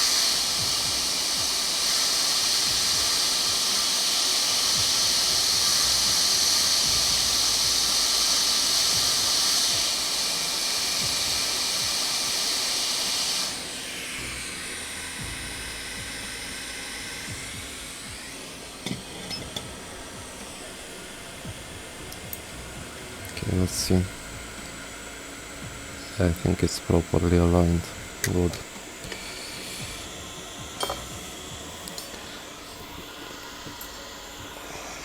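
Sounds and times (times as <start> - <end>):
hot air station hissing: 0.0 - 35.0.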